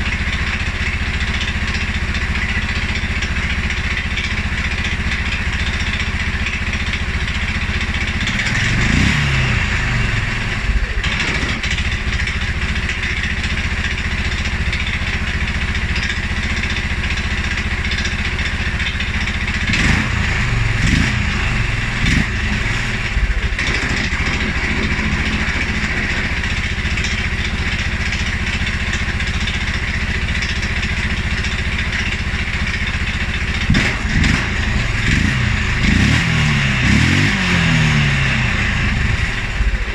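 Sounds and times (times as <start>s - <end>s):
quad bike engine idling and revving: 0.0s - 39.9s.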